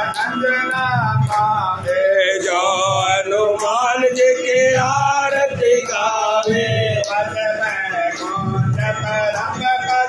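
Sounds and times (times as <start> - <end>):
man chanting a hymn: 0.0 - 10.0.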